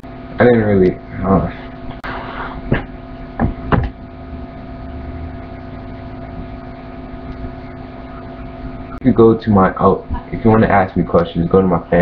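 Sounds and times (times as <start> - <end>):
steady background hum with tones: 0.0 - 12.0.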